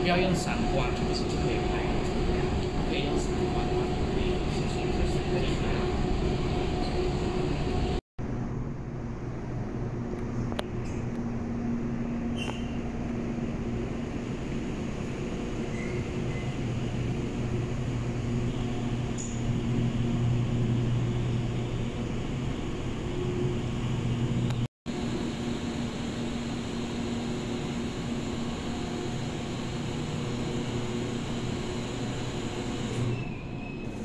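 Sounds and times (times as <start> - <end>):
low mechanical motor hum: 0.0 - 34.0.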